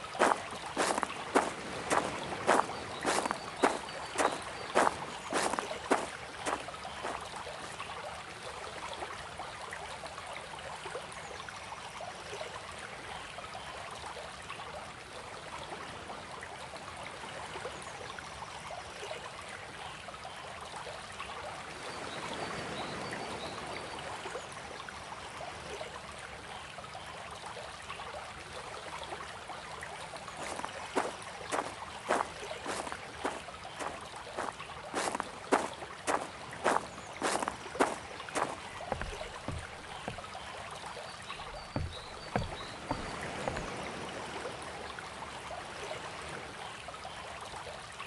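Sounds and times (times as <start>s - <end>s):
stream water flowing: 0.0s - 48.0s.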